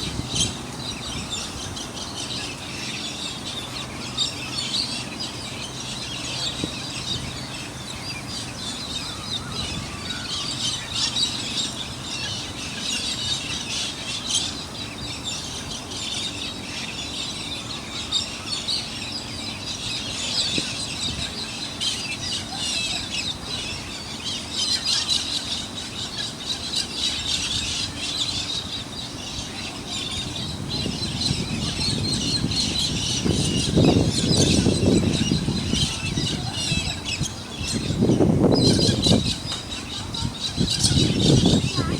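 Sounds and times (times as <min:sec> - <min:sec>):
birds chirping and squawking: 0:00.0 - 0:41.9.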